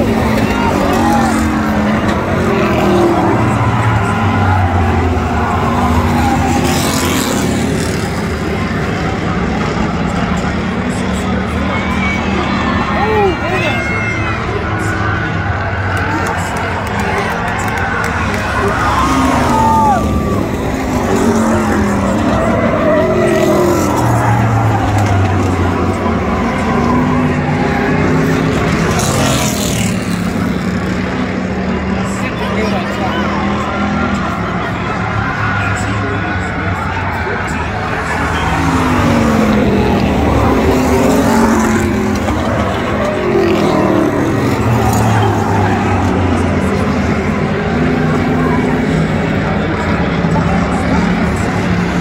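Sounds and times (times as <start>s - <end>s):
racing truck engines: 0.0s - 52.0s.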